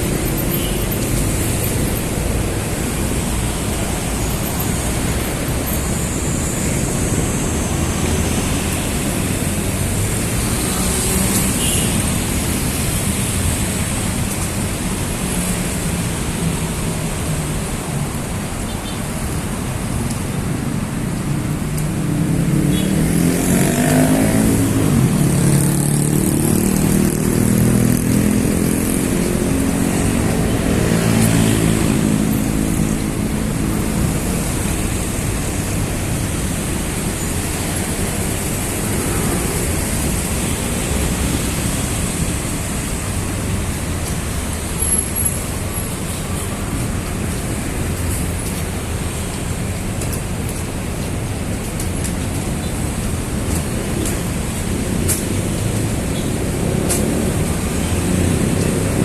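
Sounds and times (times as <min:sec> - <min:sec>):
city road traffic: 0:00.0 - 0:59.0.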